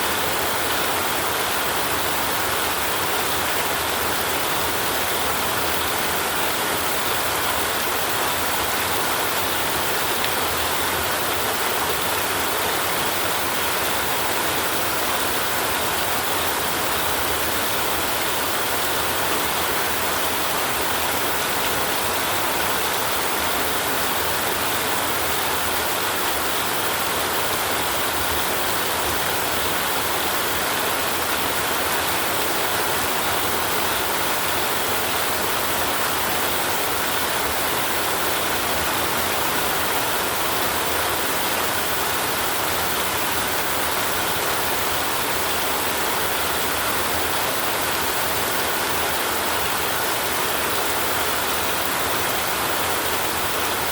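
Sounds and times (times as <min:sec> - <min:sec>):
heavy rainfall: 0:00.0 - 0:53.9.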